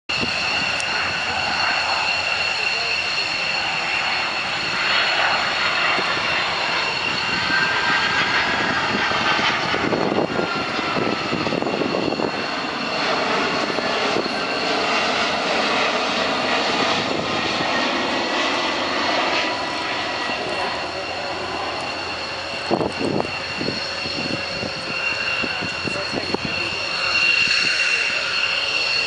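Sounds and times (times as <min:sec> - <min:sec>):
jet roar flying past: 0:00.1 - 0:29.0.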